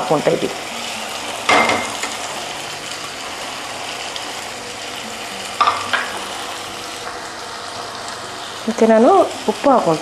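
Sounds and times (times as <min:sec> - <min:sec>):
masala sizzling in oil: 0:00.0 - 0:10.0.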